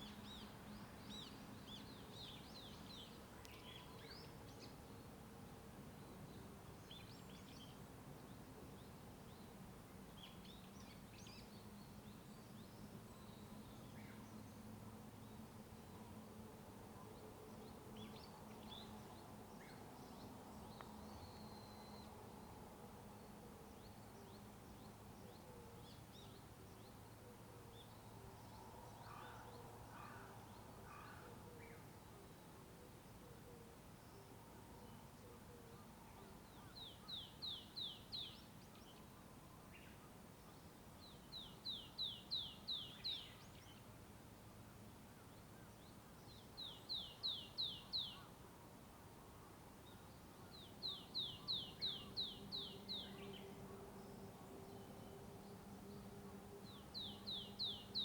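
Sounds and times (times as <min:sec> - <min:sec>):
low hum of road traffic: 0:00.0 - 0:58.0.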